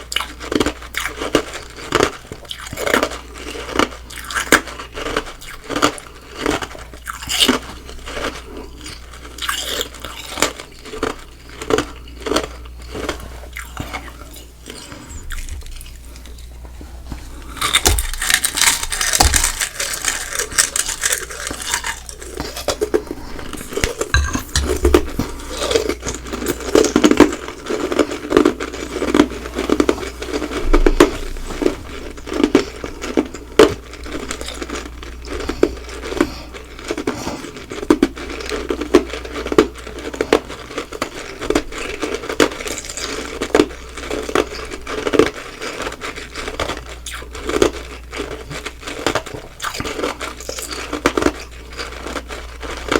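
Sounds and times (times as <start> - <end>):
chewing ice crunches: 0.0 - 52.9.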